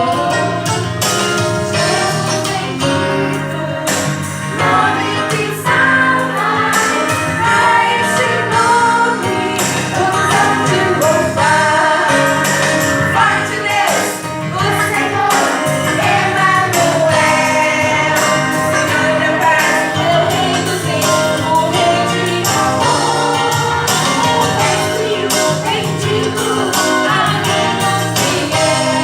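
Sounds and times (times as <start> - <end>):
rhythmic accompaniment: 0.0 - 29.0
voices singing christmas song: 0.0 - 29.0.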